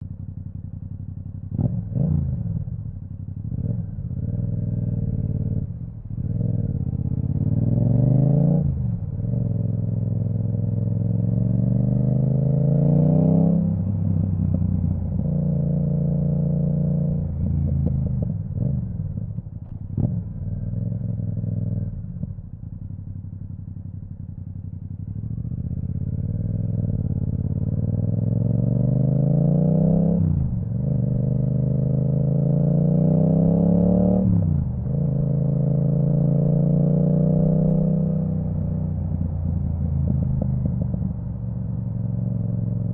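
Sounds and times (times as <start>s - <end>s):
motorcycle engine accelerating hard: 1.0s - 42.9s.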